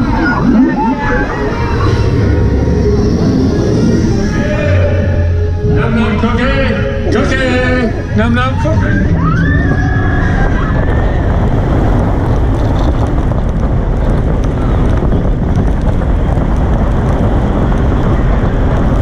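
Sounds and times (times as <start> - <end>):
roller coaster rumbling on rails: 0.0 - 19.0
wind rushing over microphone: 0.0 - 19.0.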